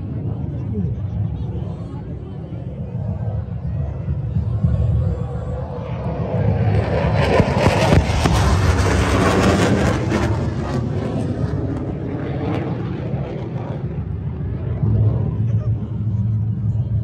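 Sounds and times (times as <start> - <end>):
fighter jet passing overhead: 0.0 - 17.0.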